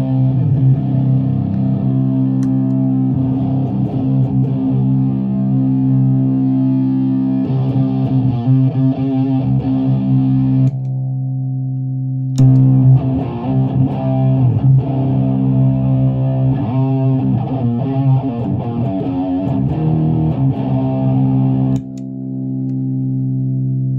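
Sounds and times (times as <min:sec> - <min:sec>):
fuzz-distorted electric guitar drone: 0:00.0 - 0:23.9.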